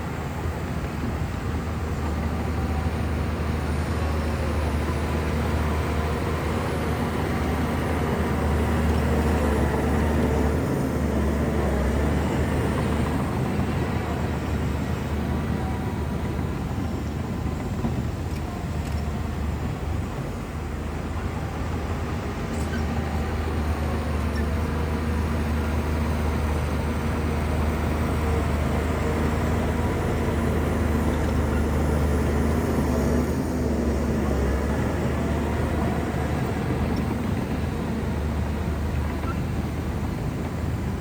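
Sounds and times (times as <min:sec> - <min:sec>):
bulldozer diesel engine drone: 0:00.0 - 0:41.0.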